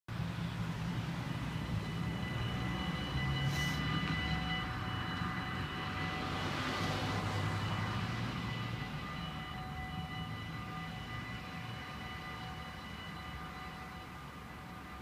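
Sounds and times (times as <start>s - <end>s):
level crossing warning bells: 0.2s - 15.0s.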